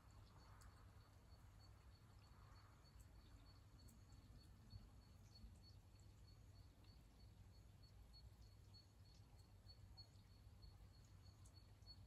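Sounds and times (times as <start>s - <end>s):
light rain: 0.0s - 12.0s.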